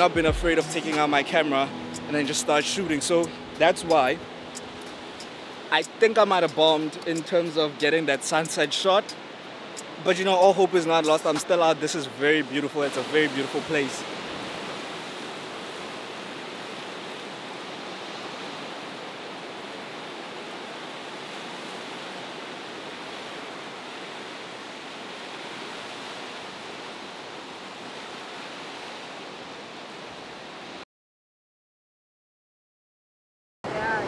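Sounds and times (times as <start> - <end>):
sea surf against rocks: 0.0 - 30.8.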